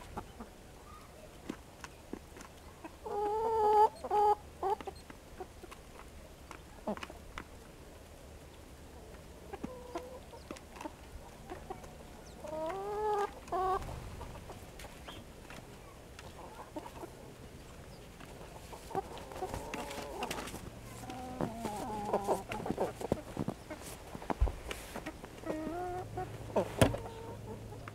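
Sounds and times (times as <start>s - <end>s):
hens clucking: 0.0s - 7.5s, 9.0s - 27.9s.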